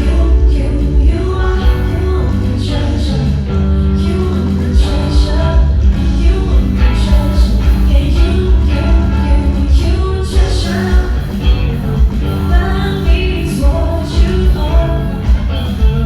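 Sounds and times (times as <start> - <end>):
heavy steady bass: 0.0 - 16.0
live band with singer: 0.0 - 16.0.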